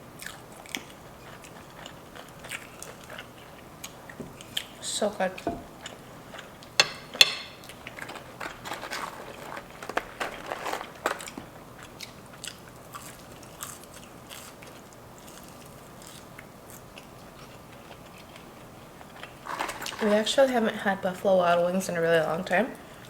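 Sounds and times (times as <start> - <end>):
crackly chewing: 0.1 - 6.8, 7.5 - 20.3.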